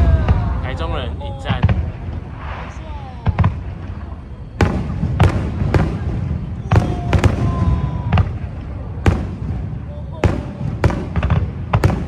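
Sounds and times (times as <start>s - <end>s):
fireworks bangs: 0.0s - 12.0s
low rumble of fireworks: 0.0s - 12.0s.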